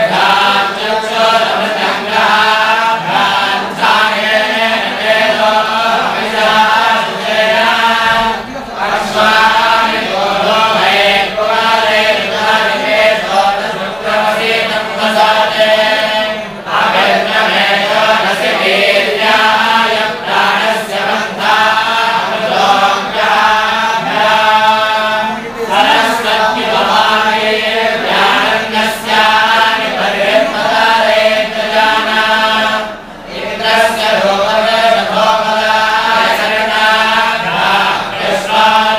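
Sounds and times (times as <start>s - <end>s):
young men chanting in unison: 0.0s - 38.9s.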